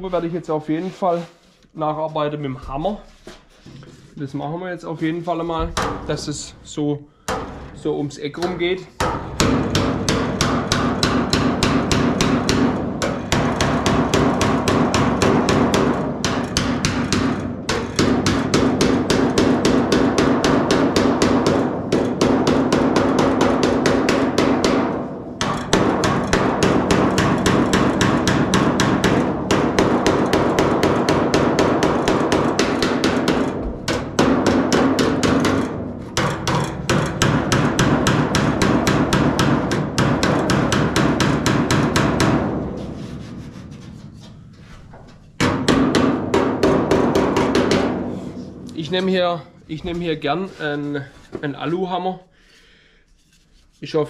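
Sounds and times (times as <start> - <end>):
hammer beating sheet steel: 4.9 - 52.0.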